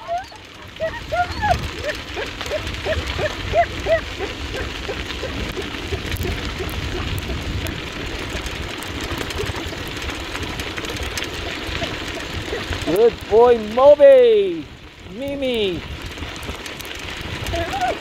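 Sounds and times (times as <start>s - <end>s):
wheels rolling over dirt trail: 0.0s - 18.0s.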